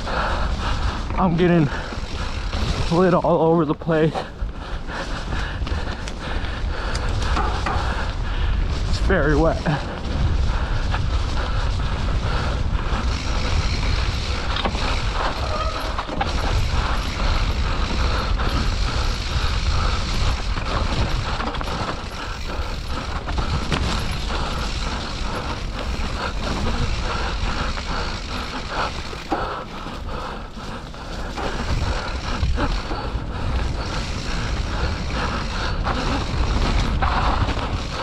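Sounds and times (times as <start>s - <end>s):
bike chain and frame rattling: 0.0s - 38.0s
bike tyres rumbling on trail: 0.0s - 38.0s.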